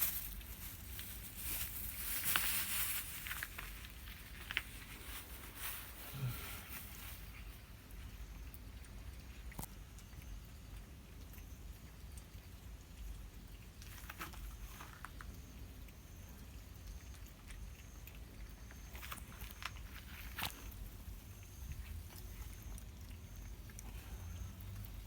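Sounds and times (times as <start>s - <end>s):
cats crunching dry food: 0.0s - 25.0s
low outdoor rumble: 0.0s - 25.0s.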